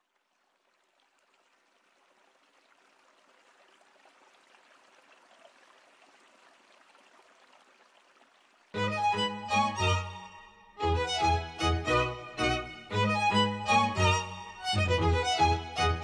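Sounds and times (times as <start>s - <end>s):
river water babbling: 0.0s - 16.0s.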